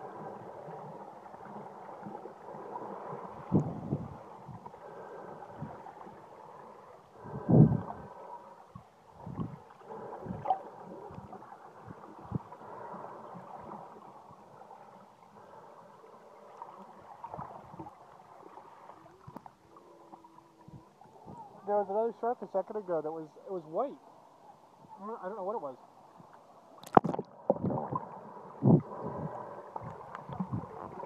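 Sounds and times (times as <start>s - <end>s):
muffled underwater gurgling: 0.0s - 24.0s, 26.9s - 31.0s.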